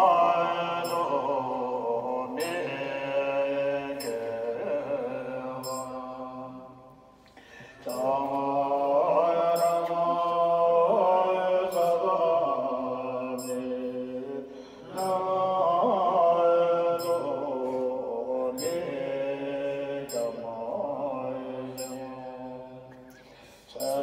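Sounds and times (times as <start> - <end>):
monks chanting: 0.0 - 6.8, 7.8 - 23.0.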